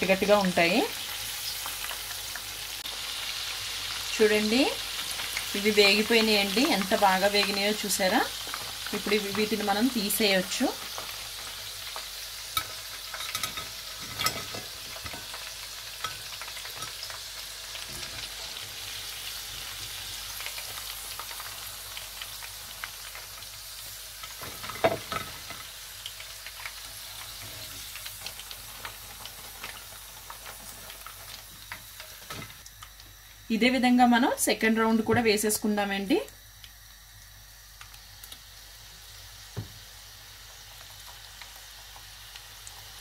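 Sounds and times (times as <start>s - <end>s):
food deep-frying in hot oil: 0.0s - 43.0s.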